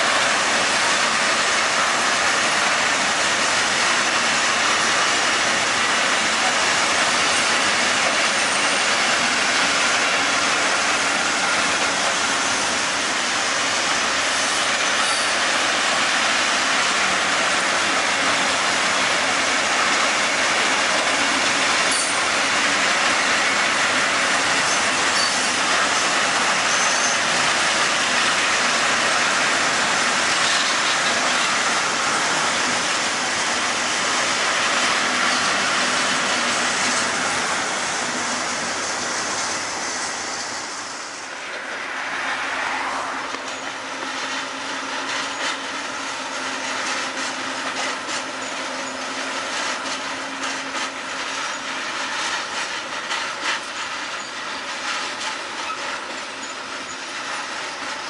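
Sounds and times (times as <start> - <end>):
steel wheels rolling on rails: 0.0 - 58.0.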